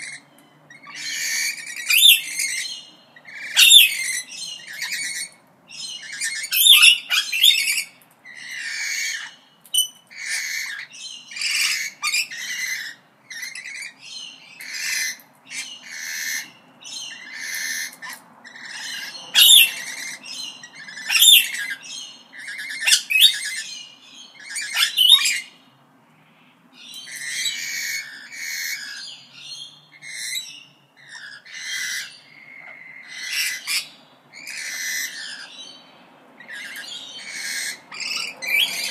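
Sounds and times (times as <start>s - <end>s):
parrots calling shrilly: 0.0s - 25.7s, 26.8s - 38.9s.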